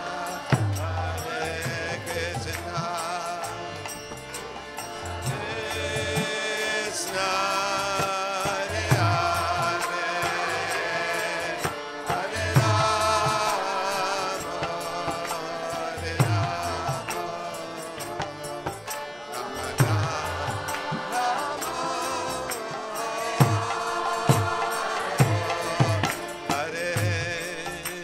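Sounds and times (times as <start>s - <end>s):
voices chanting a mantra: 0.0s - 28.0s.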